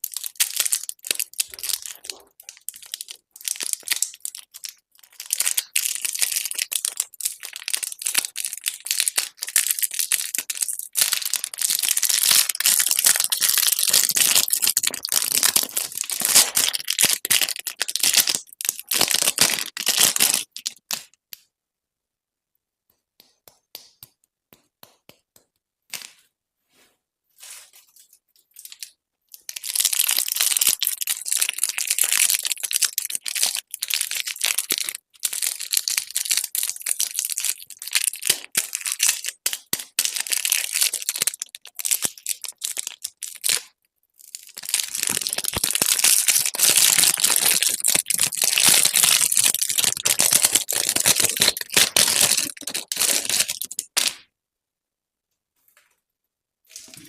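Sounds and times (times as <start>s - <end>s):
plastic candy wrappers crinkling: 0.0s - 21.2s, 27.8s - 54.2s.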